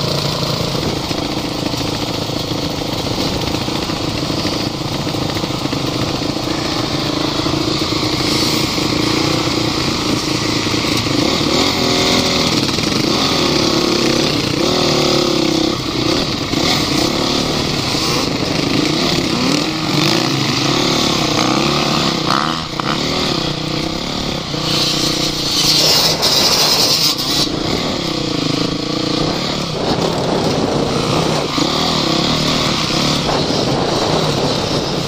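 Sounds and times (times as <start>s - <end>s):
off-road vehicle engine revving: 0.0s - 35.0s
steady rushing noise: 0.0s - 35.0s.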